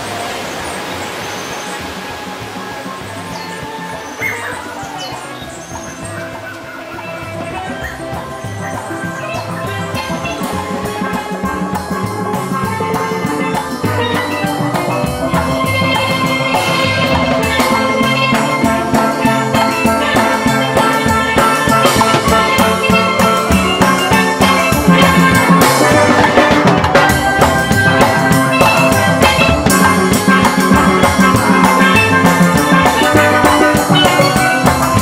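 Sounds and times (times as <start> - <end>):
steel pans playing melody: 0.0 - 35.0
drum kit: 1.8 - 35.0.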